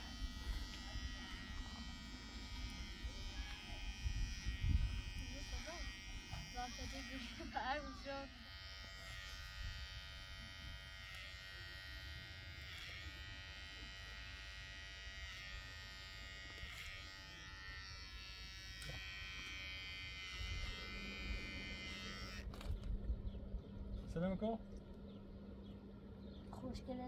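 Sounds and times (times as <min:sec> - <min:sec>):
small electric motor buzzing: 0:00.0 - 0:22.9.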